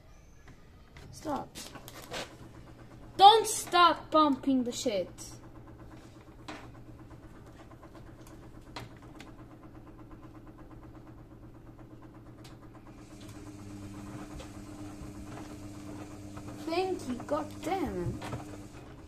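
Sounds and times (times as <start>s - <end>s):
washing machine humming: 0.0s - 19.0s
washing machine drum motor hum: 0.6s - 19.0s.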